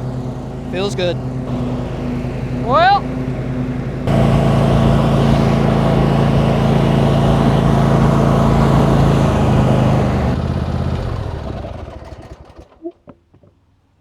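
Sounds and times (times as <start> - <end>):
riding lawn mower engine running: 0.0 - 12.9.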